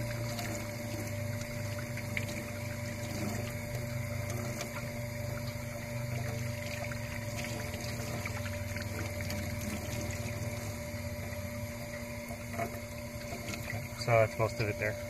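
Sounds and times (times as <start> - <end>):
low pump hum: 0.0 - 15.0
water running: 0.0 - 15.0.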